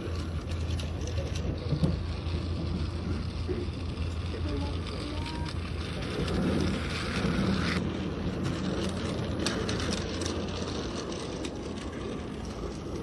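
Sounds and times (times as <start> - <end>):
toy train motor whirring: 0.0 - 13.0
wheels clicking on track: 0.0 - 13.0.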